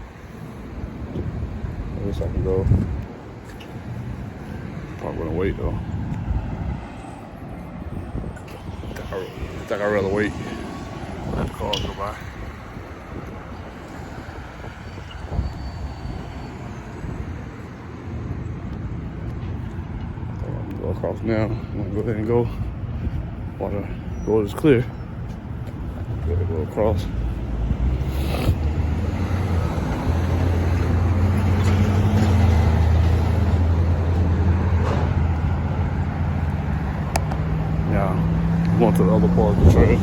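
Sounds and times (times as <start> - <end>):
road traffic passing: 0.0 - 40.0
vehicle engine rumble: 0.0 - 40.0.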